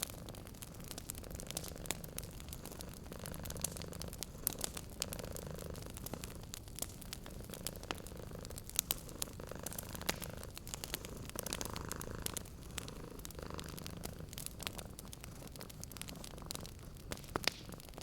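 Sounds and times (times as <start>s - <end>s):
cat purring: 0.0s - 18.0s
wood fire crackling: 0.0s - 18.0s.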